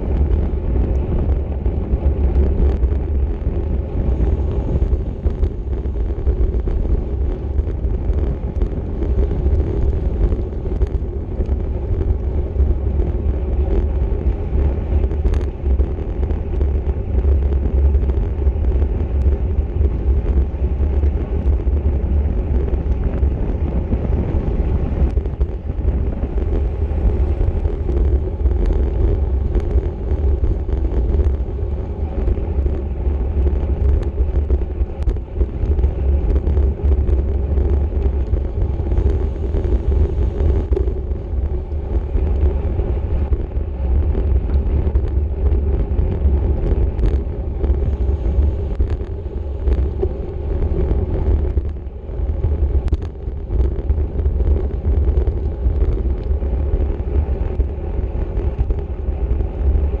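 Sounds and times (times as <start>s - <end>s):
wind buffeting microphone: 0.0s - 60.0s.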